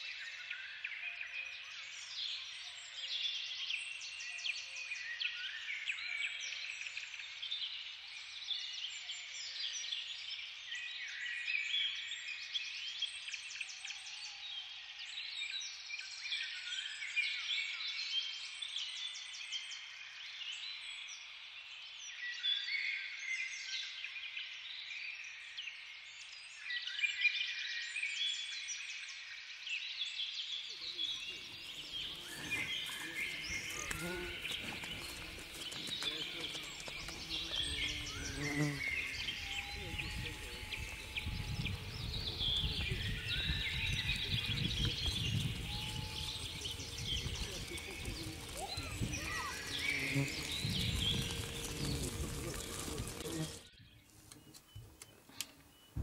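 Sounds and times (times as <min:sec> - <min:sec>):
chorus of small birds singing: 0:00.0 - 0:56.0.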